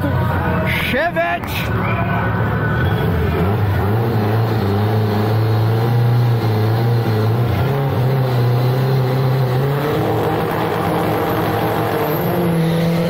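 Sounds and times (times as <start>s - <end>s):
car engine running loudly: 0.0s - 13.0s.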